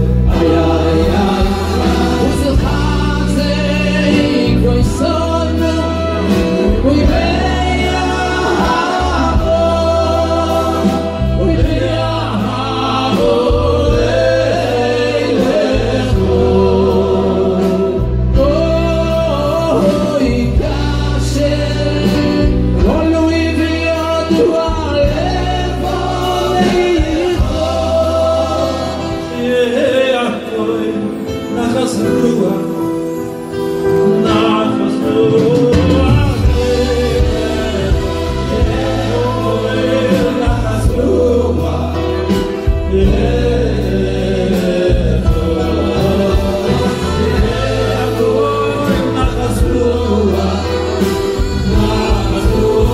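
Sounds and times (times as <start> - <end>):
held bass notes: 0.0 - 30.6, 34.9 - 52.9
men singing through microphones: 0.0 - 52.9.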